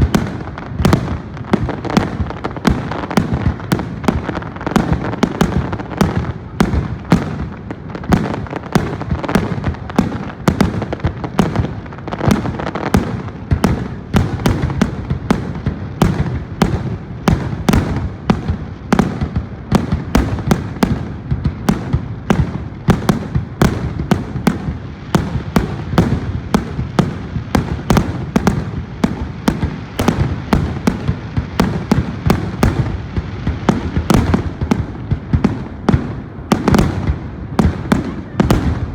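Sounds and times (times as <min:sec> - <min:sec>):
fireworks bursting: 0:00.0 - 0:38.9.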